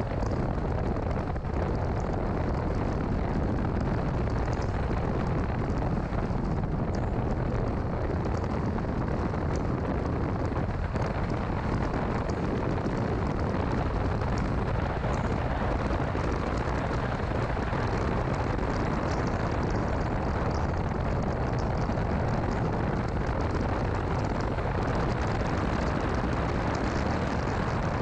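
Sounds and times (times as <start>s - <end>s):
car driving rumble: 0.0s - 28.0s
faint ticks: 0.1s - 9.8s, 10.4s - 28.0s.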